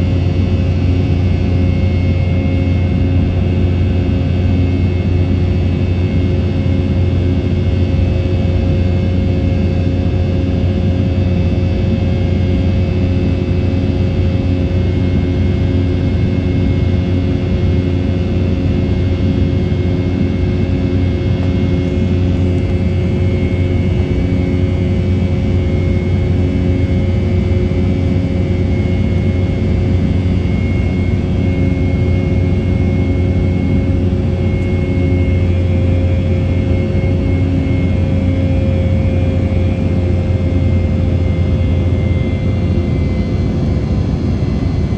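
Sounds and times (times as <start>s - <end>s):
higher whine: 0.0s - 44.9s
jet engines droning with whine: 0.0s - 44.9s.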